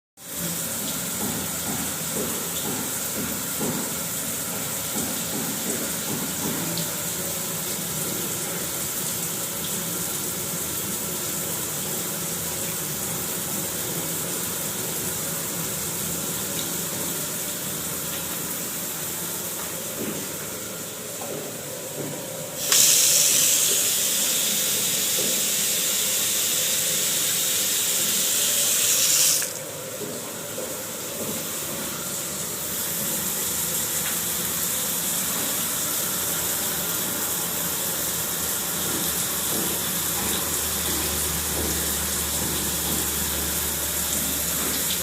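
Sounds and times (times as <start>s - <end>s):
water running: 0.2s - 45.0s.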